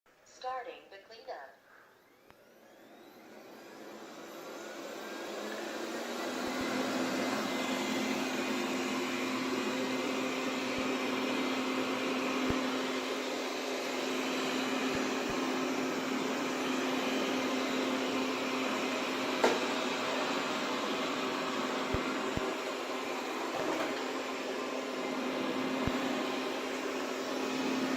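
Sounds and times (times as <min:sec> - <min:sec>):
robot vacuum motor hum: 0:02.0 - 0:27.9.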